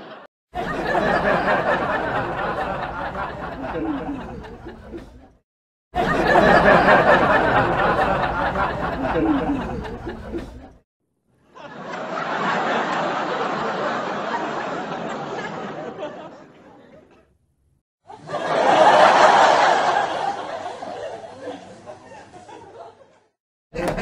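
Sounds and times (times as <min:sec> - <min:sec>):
studio audience laughter: 0:00.0 - 0:10.8, 0:11.4 - 0:17.4, 0:18.1 - 0:24.0.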